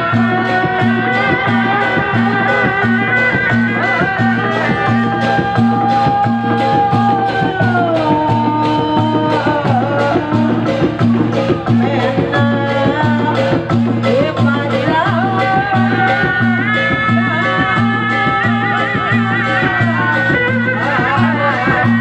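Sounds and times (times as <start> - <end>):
sliding melody line: 0.0 - 22.0
steady drum beat: 0.0 - 22.0.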